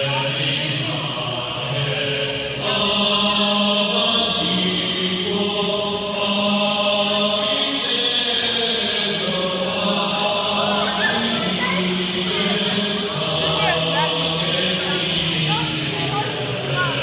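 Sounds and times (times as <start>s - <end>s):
chant-like voices music: 0.0s - 17.0s.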